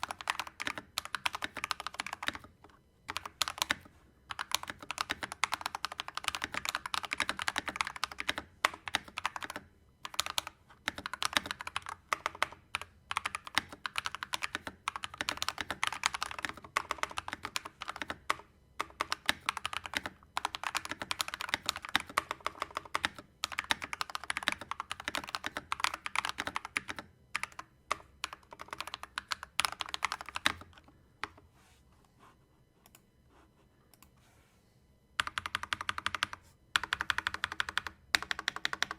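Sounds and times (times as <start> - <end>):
mechanical keyboard typing: 0.0 - 31.4, 35.2 - 38.9.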